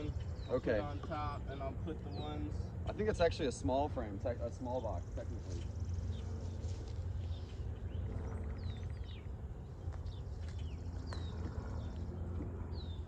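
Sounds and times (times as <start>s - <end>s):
low hum: 0.0s - 13.0s
songbirds chirping: 0.0s - 13.0s.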